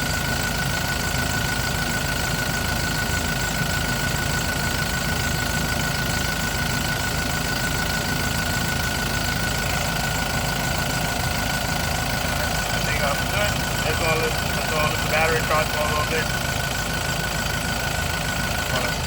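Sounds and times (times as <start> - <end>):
forklift engine idling: 0.0 - 19.0.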